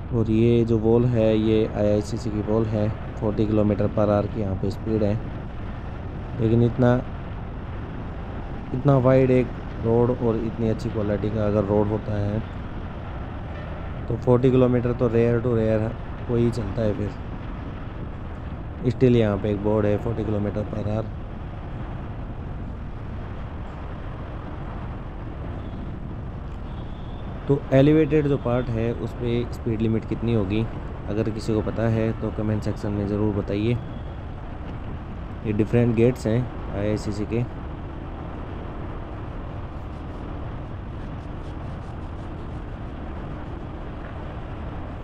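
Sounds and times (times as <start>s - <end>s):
car road noise: 0.0s - 45.0s
faint constant hum: 0.0s - 45.0s.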